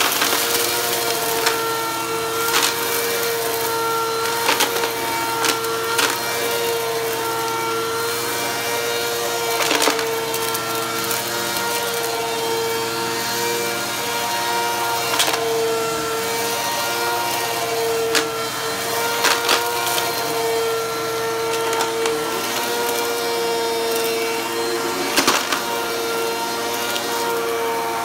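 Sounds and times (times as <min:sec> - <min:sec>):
vacuum cleaner humming: 0:00.0 - 0:28.0.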